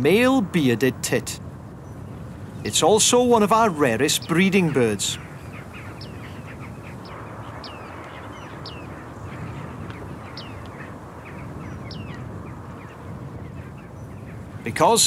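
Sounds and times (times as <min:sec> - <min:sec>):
high bird calls: 0:01.8 - 0:15.0.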